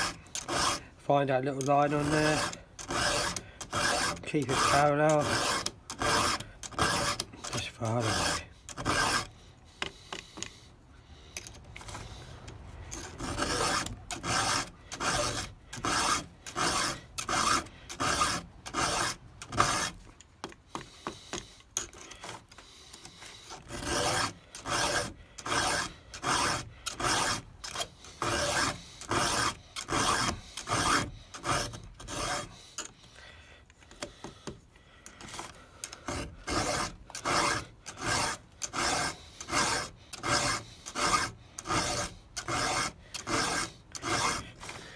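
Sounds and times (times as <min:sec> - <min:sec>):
file rasping on chainsaw chain: 0:00.0 - 0:44.9.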